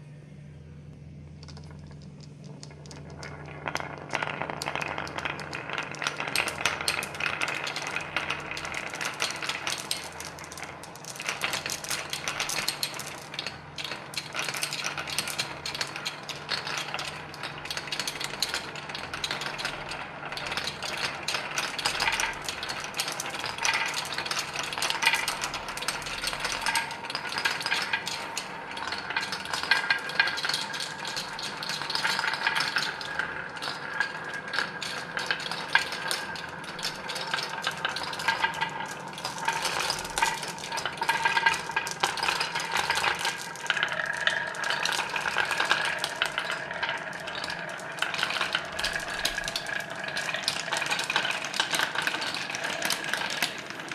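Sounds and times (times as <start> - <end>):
marbles rolling and clattering: 1.4 - 53.9.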